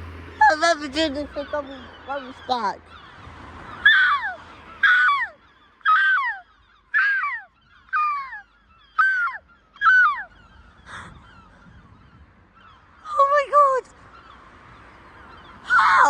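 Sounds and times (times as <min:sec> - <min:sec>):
gull calling: 0:00.3 - 0:14.5, 0:15.1 - 0:16.0.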